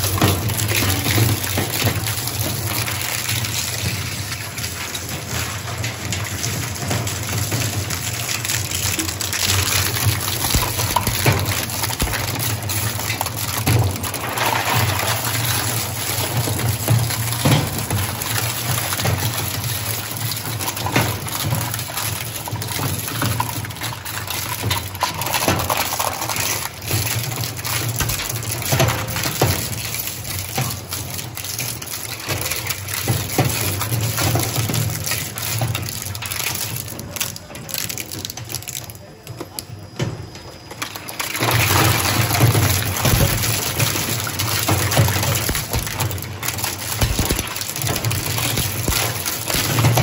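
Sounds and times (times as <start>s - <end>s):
shredder crushing hard plastic: 0.0s - 31.4s, 40.8s - 50.0s.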